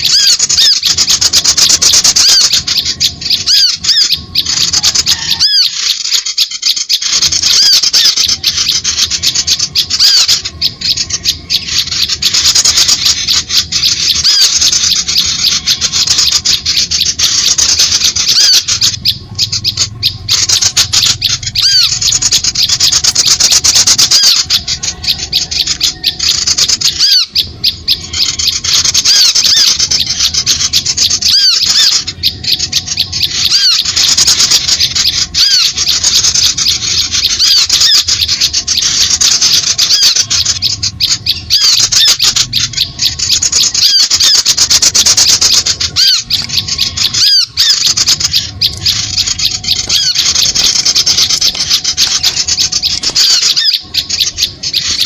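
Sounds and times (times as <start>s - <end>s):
small birds chattering and chirping: 0.0s - 55.0s.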